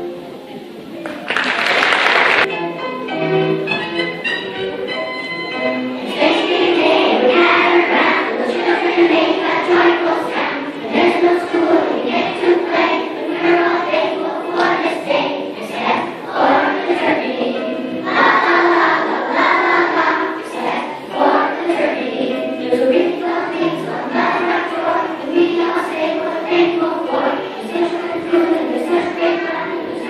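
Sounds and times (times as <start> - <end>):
children's choir singing: 0.0 - 2.5, 5.4 - 30.0.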